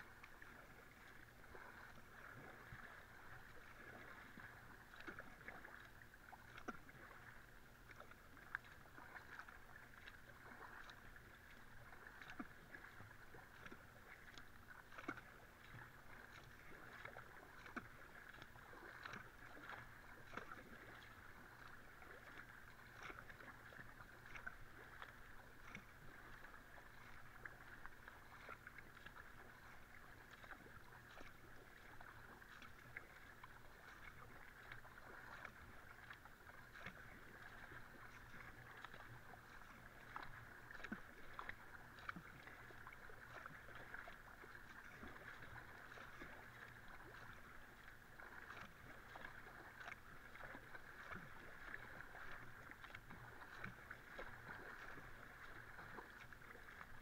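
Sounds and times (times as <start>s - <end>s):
kayak paddle strokes splashing: 0.0s - 57.0s
water rushing along hull: 0.0s - 57.0s.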